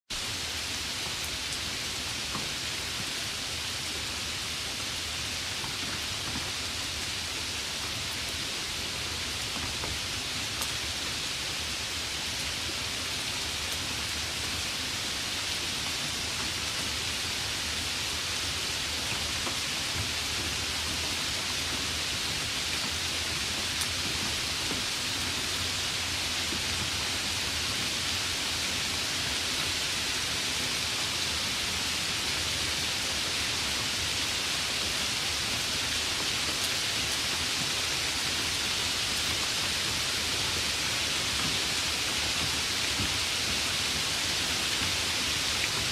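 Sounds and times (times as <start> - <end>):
light rain falling: 0.1 - 45.9.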